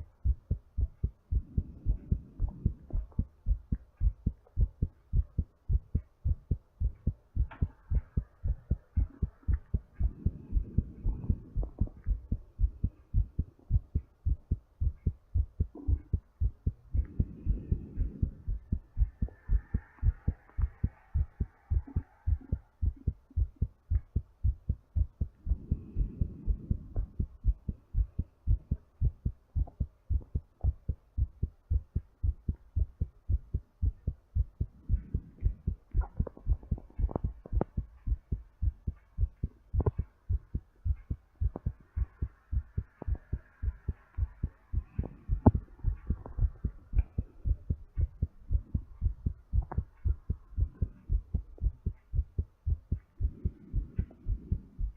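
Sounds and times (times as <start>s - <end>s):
slow breaths: 0.0s - 31.4s, 32.0s - 51.8s, 52.6s - 54.9s
heartbeat: 0.0s - 54.9s.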